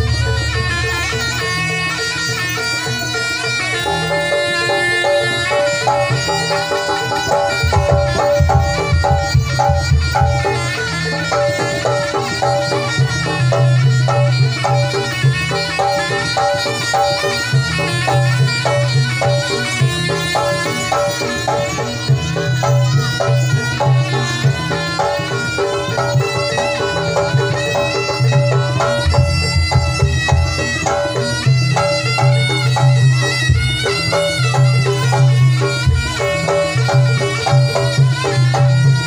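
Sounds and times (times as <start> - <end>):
rhythmic drums and percussion: 0.0 - 39.0
shrill reedy shawm melody: 0.0 - 39.0.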